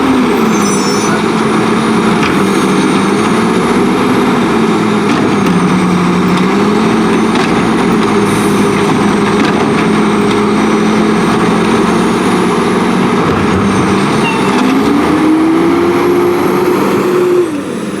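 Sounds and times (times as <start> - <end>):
garbage truck diesel engine revving: 0.0 - 18.0.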